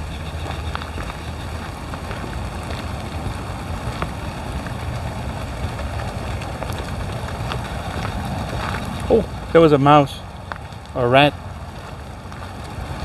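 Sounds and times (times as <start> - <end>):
drops ticking: 0.0 - 13.0
rain falling: 0.0 - 13.0
wind rumble on microphone: 0.0 - 13.0.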